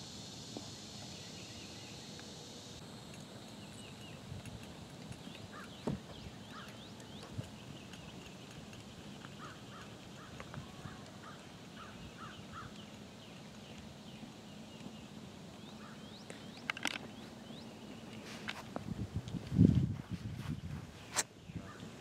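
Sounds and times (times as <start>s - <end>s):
birds chirping: 0.6s - 18.8s.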